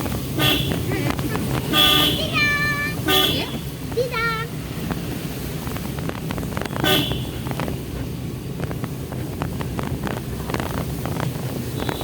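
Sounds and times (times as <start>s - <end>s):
van engine and road drone: 0.0s - 12.0s.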